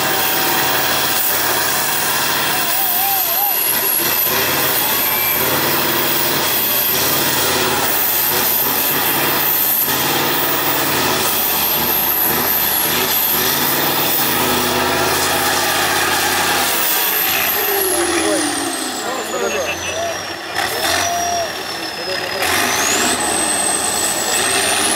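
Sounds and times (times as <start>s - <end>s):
truck engine running under load: 0.0s - 24.9s.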